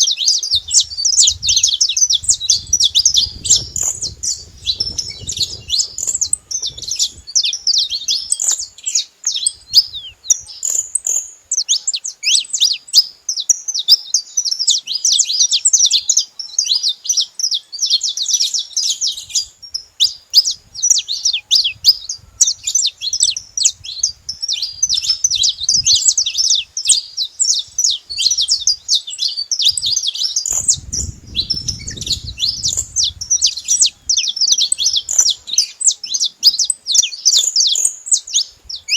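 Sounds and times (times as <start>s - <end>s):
finches chirping and trilling: 0.0s - 38.9s.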